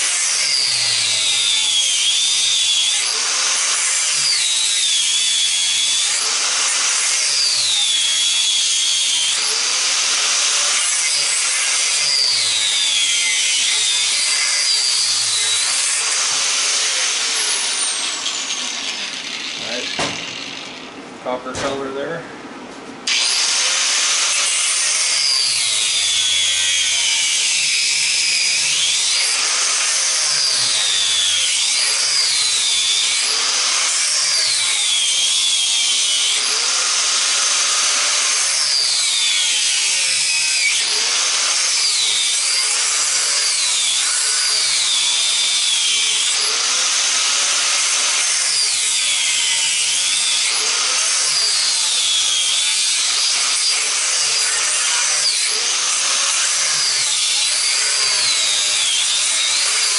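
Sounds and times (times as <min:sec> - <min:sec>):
angle grinder cutting copper: 0:00.0 - 0:22.0, 0:23.0 - 0:59.9.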